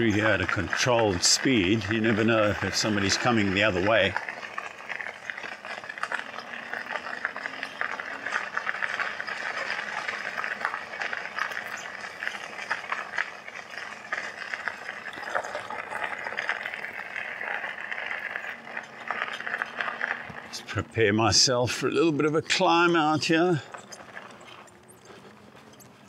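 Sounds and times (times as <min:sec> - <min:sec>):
bike rattling: 0:00.0 - 0:26.0
bike tyres crunching on gravel: 0:00.0 - 0:26.0.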